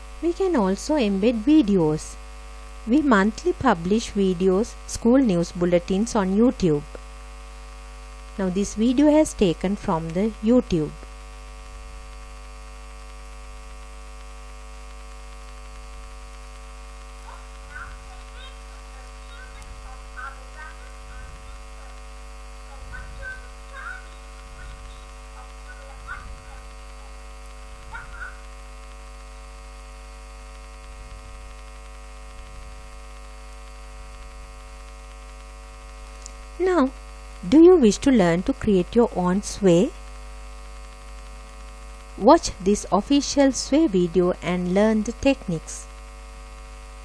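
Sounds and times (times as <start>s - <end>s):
electrical mains hum: 0.0s - 47.0s.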